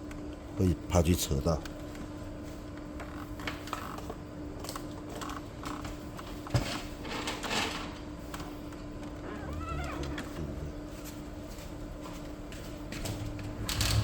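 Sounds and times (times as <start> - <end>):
steady low hum: 0.0 - 7.0, 8.0 - 14.0.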